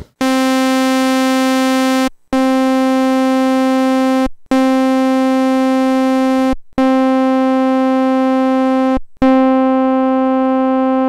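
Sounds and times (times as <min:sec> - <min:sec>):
buzzy synthesizer note: 0:00.0 - 0:11.0.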